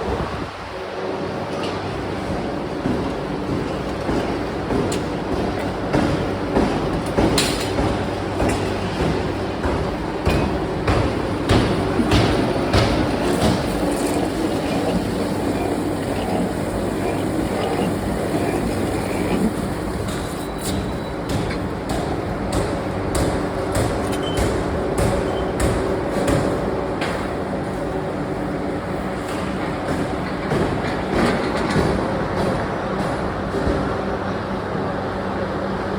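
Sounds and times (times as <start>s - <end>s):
factory machinery humming: 0.0s - 35.9s.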